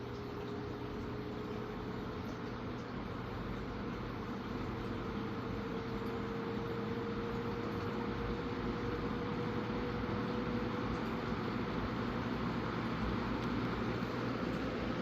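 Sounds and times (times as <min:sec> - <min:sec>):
box fan blowing air: 0:00.0 - 0:15.0
faint motor hum: 0:00.0 - 0:15.0.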